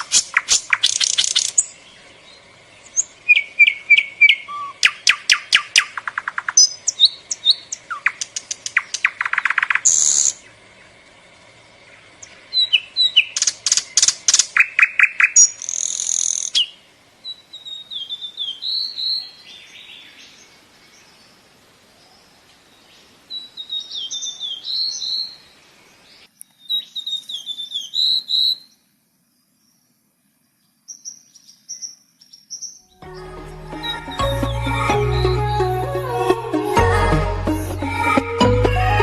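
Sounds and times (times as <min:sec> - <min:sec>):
songbirds chirping and singing: 0:00.0 - 0:39.0.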